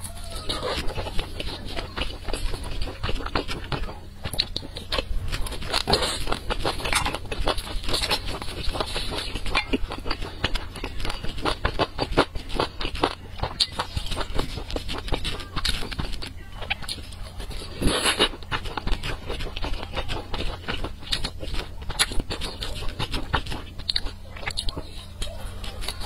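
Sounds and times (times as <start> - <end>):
mouth chewing clicks and smacks: 0.4 - 26.0.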